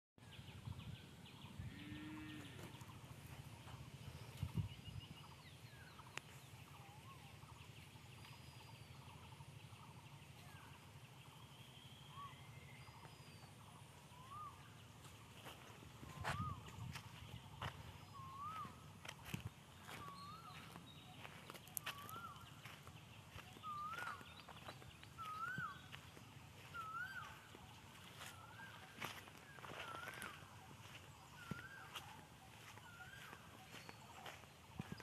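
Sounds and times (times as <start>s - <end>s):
faint birdsong: 0.2s - 35.0s.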